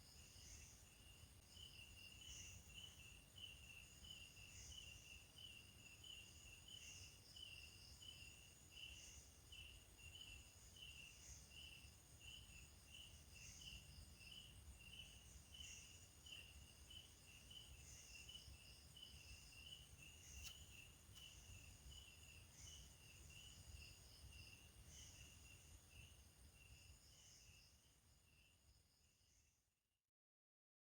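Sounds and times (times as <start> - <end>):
high pulsing insect call: 0.0 - 29.7
cricket chirping: 0.0 - 29.8.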